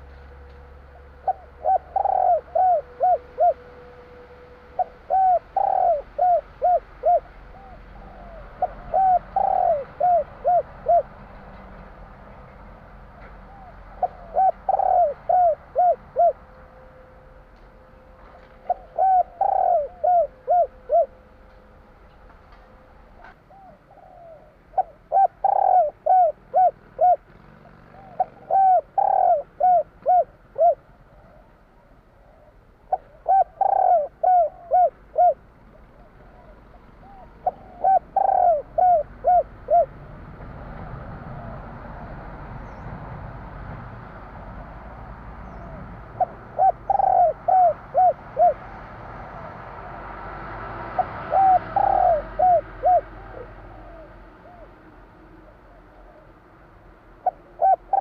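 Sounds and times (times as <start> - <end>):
dove cooing: 0.0 - 17.1, 18.0 - 21.4, 22.6 - 40.0, 45.4 - 48.7, 50.8 - 56.4, 57.1 - 58.0.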